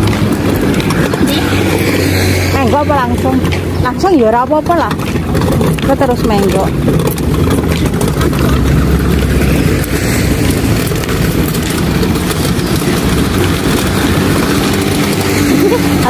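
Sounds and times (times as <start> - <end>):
cart wheels rumbling on asphalt: 0.0 - 16.0.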